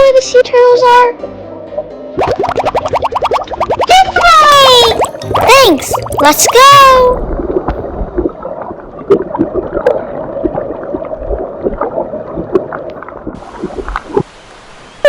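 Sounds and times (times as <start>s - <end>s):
underwater bubbling and gurgling: 2.2s - 14.3s.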